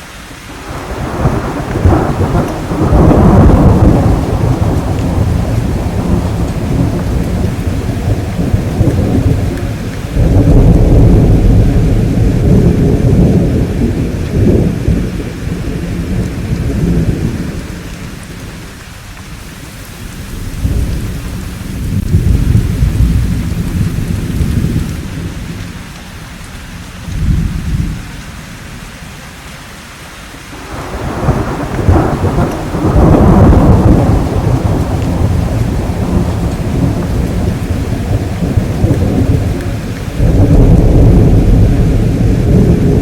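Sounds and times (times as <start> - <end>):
steady rainfall: 0.0 - 43.0
deep rolling thunder: 0.6 - 29.1, 30.6 - 43.0.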